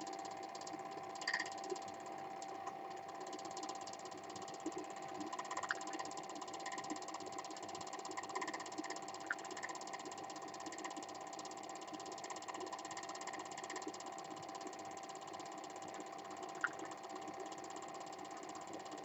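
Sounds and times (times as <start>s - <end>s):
film projector whirr: 0.0s - 19.0s.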